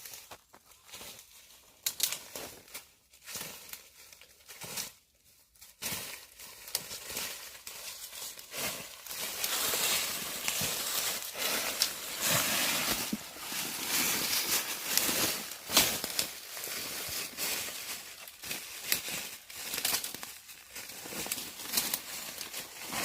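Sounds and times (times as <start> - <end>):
crackles: 0.0 - 23.0
crinkling and rustling: 0.0 - 23.0.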